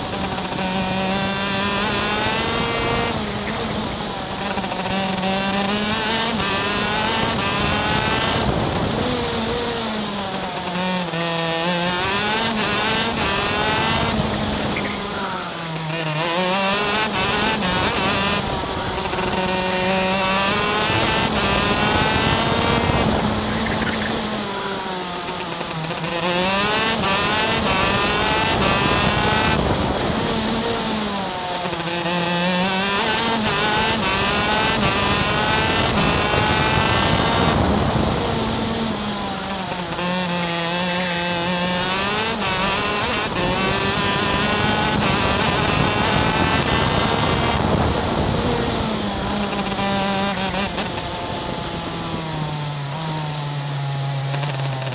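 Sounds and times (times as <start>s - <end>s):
racing kart engine at high revs: 0.0s - 54.9s.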